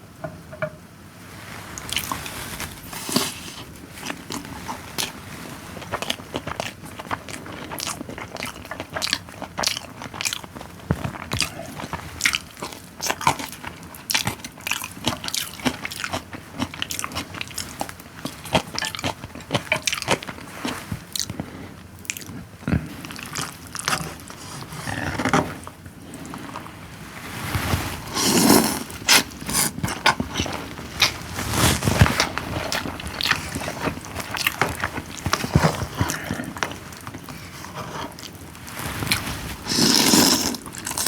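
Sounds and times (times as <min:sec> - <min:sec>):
person chewing crunchy food: 0:01.6 - 0:41.0.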